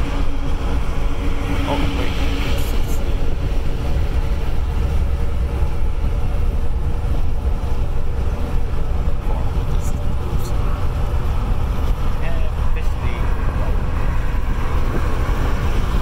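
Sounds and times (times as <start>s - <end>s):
road and engine rumble inside vehicle: 0.0s - 16.0s.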